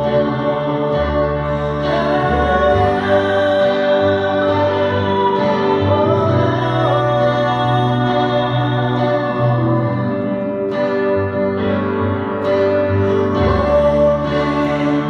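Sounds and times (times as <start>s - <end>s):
person singing: 0.0s - 15.0s
sustained chords: 0.0s - 15.0s.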